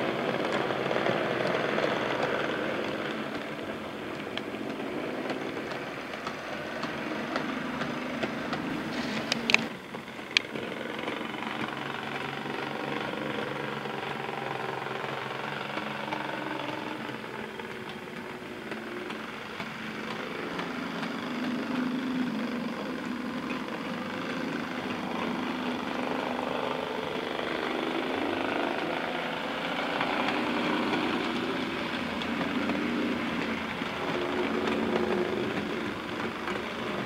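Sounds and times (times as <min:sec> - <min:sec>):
model train motor hum: 0:00.0 - 0:37.0
wheels clicking on rails: 0:00.0 - 0:37.0.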